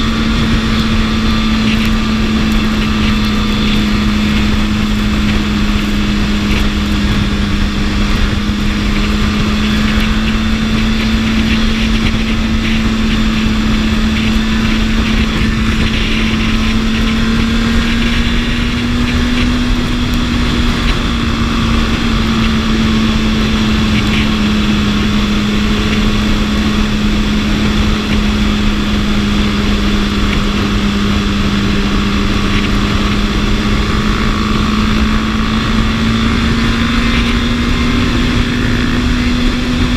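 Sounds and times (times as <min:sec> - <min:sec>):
motorcycle engine cruising: 0:00.0 - 0:39.9
wind noise rushing: 0:00.0 - 0:39.9.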